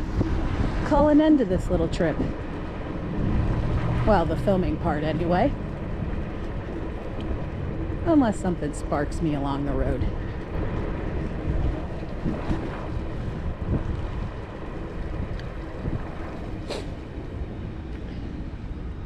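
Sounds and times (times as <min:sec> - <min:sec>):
electric scooter rolling: 0:00.0 - 0:19.0
wind buffeting microphone: 0:00.0 - 0:19.0.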